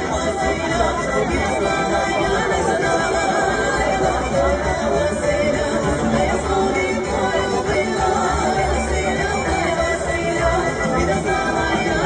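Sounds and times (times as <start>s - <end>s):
double bass: 0.0s - 12.0s
fiddle: 0.0s - 12.0s
woman singing: 0.0s - 12.0s.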